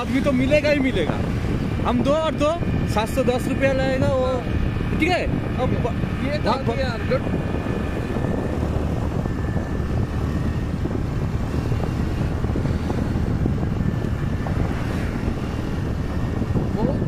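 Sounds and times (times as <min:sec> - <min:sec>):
vehicle motor rumble: 0:00.0 - 0:17.0
wind buffeting microphone: 0:00.0 - 0:17.0.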